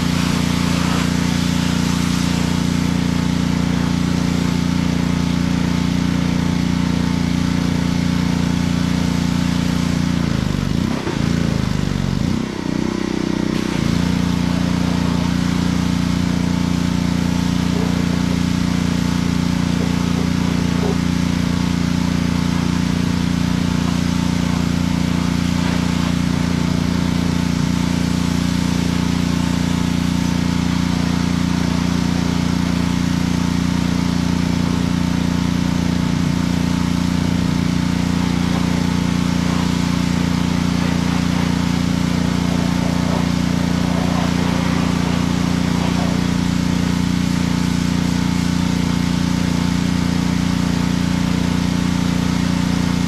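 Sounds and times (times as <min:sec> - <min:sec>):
pressure washer running: 0:00.0 - 0:53.0.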